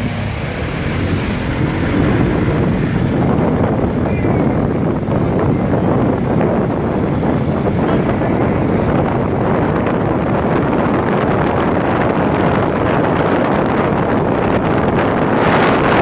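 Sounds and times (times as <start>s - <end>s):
motorcycle engine: 0.0s - 16.0s
road noise: 0.0s - 16.0s
wind rushing over microphone: 0.0s - 16.0s.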